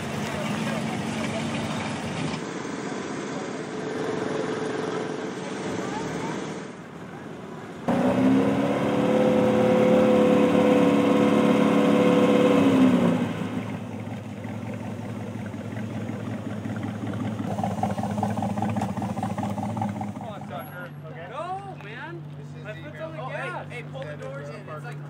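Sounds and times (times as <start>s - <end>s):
race vehicle engine running loud: 0.0s - 21.0s
quieter wavering engine: 0.0s - 25.0s.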